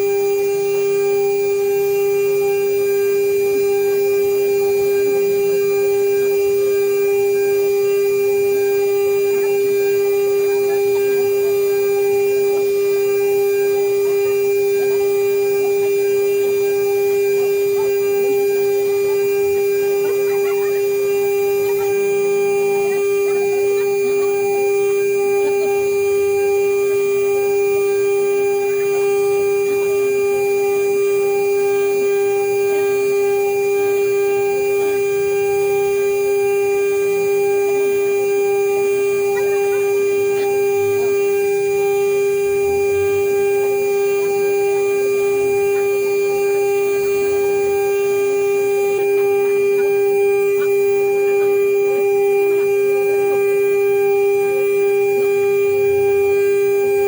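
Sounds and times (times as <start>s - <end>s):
router spindle whine: 0.0s - 57.0s.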